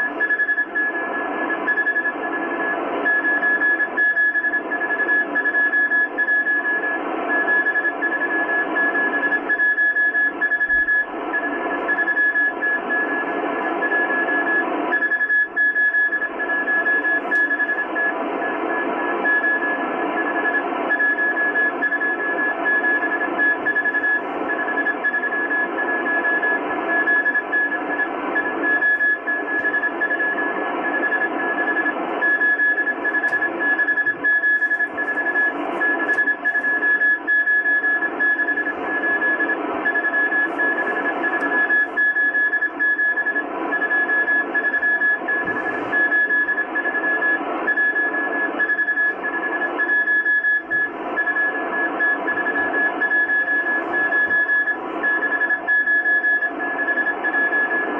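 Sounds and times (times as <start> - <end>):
morse code tone: 0.0 - 57.9.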